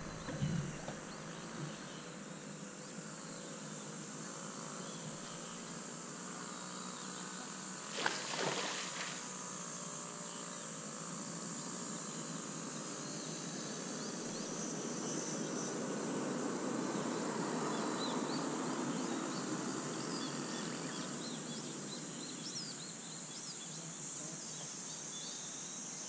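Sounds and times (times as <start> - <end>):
faint wavering hum: 0.0 - 26.0
insects buzzing: 0.0 - 26.0.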